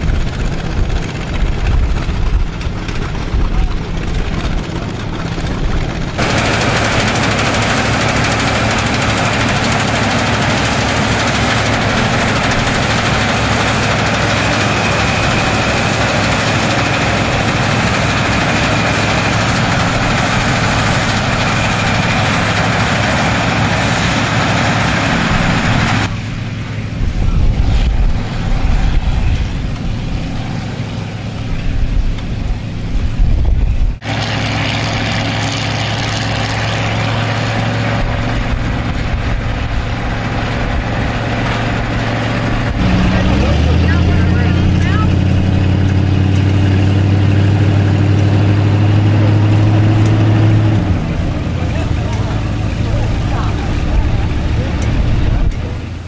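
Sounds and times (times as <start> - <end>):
threshing machinery clatter: 0.0 - 32.7, 34.0 - 56.0
wind buffeting microphone: 0.0 - 34.0, 35.2 - 56.0
combine harvester engine hum: 0.0 - 56.0.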